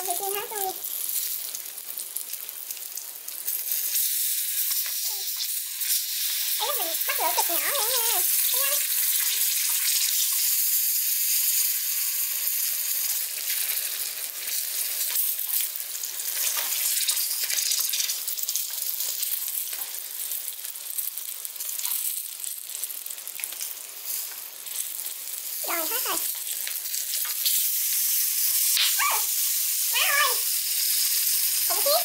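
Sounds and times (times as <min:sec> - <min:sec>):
batter frying in hot oil: 0:00.0 - 0:32.0.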